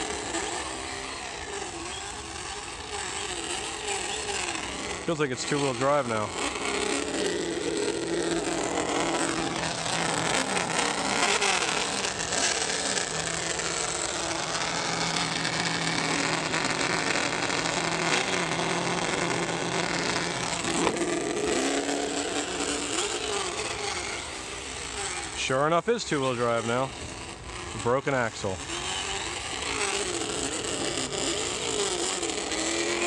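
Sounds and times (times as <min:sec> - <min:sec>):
engine sound from small speakers: 0:00.0 - 0:33.0
toy truck tyres and drivetrain: 0:00.0 - 0:33.0.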